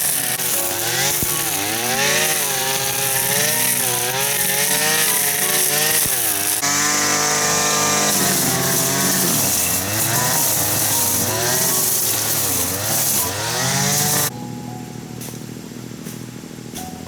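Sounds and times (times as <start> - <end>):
small engine revving: 0.0 - 14.3.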